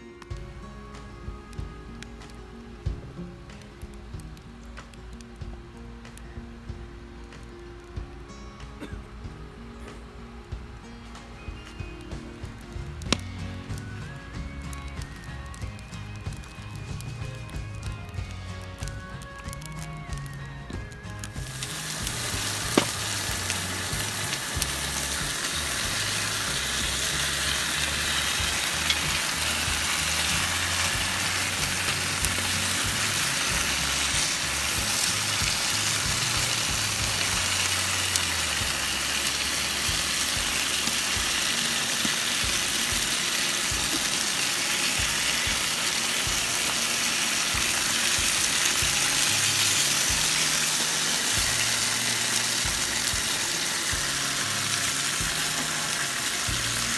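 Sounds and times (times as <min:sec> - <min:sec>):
steaks and onions sizzling: 0:09.4 - 0:56.9.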